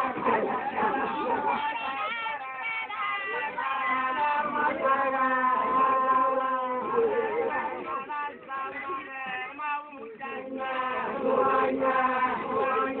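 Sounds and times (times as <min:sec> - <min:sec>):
group singing long chanted notes: 0:00.0 - 0:13.0.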